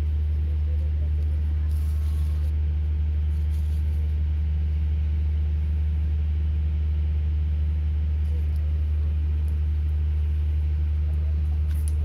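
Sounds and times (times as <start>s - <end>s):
low engine-like drone: 0.0s - 12.0s.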